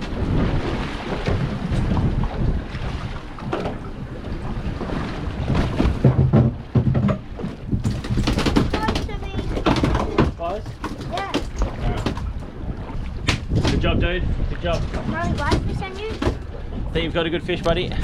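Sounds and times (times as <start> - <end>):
boat running: 0.0 - 18.0
water: 0.0 - 18.0
wind buffeting microphone: 0.0 - 18.0.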